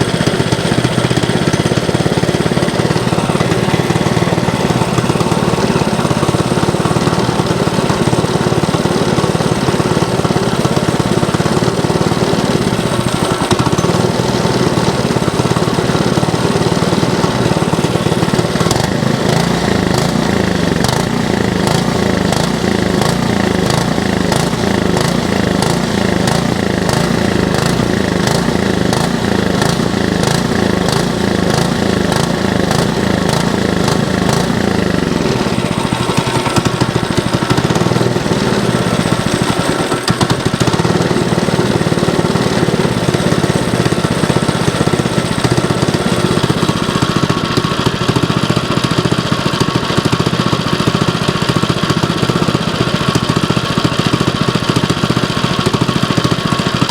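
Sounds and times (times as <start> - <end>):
small gasoline engine surging: 0.0 - 56.9.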